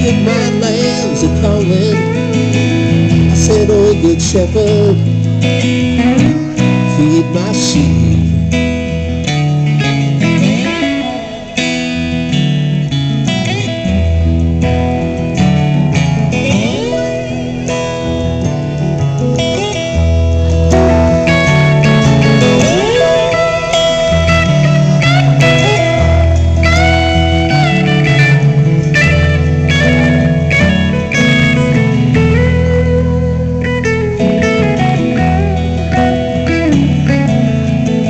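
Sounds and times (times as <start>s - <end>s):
live band music: 0.0s - 38.0s
slide guitar glides: 0.0s - 38.0s.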